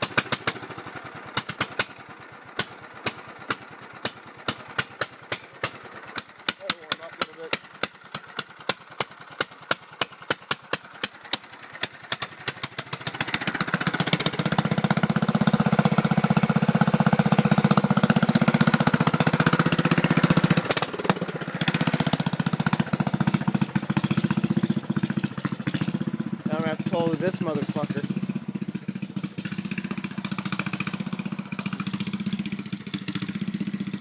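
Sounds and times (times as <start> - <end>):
tractor engine idling and revving: 0.0 - 34.0.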